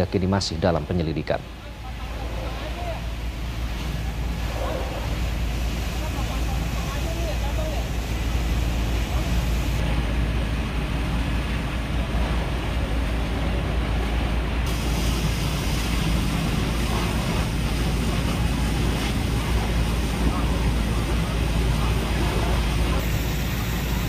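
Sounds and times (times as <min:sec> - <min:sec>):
engines and pumps rumbling: 0:00.0 - 0:24.0
fire hoses hissing: 0:00.0 - 0:24.0.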